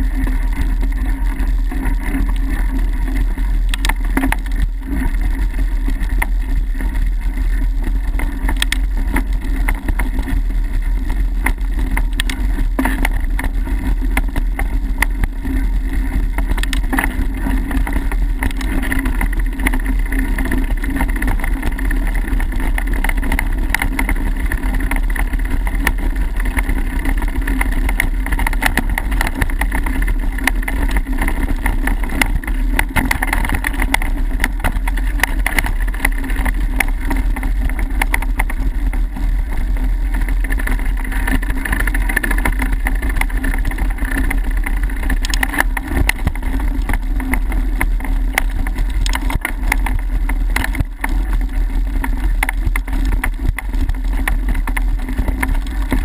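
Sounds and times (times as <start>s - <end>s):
bike rattles and knocks: 0.0s - 56.0s
bike rumbling over dirt: 0.0s - 56.0s.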